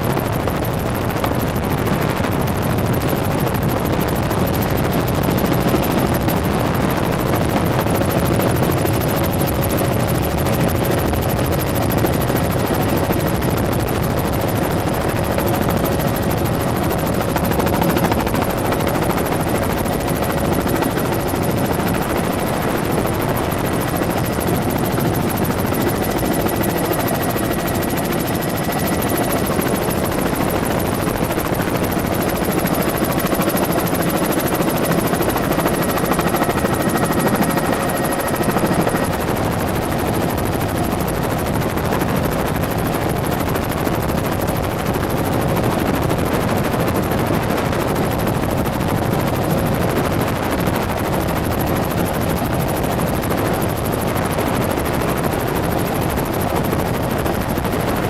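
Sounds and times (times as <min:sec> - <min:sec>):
helicopter engine and rotors: 0:00.0 - 0:58.0.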